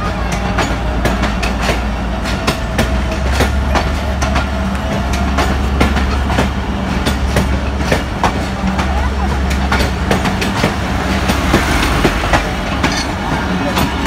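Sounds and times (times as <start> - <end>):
train rumble: 0.0 - 14.0
wheels clicking over rail joints: 0.0 - 14.0.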